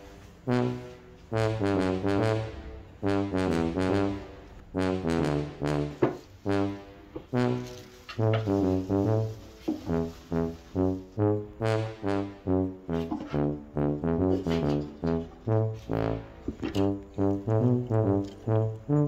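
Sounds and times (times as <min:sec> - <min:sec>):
bouncy comic brass music: 0:00.0 - 0:19.0.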